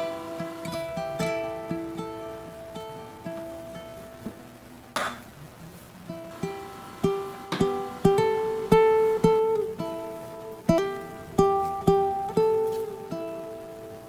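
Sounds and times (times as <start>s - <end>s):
plucked string instrument melody: 0.0s - 5.3s, 6.0s - 14.0s.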